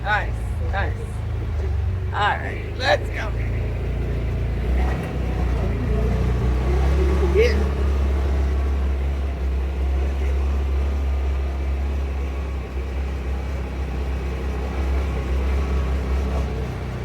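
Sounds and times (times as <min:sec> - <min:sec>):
small vehicle engine rumbling: 0:00.0 - 0:17.0.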